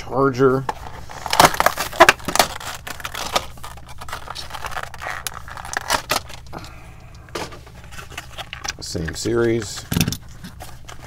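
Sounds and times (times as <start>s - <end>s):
plastic packaging crackling: 0.7s - 11.0s.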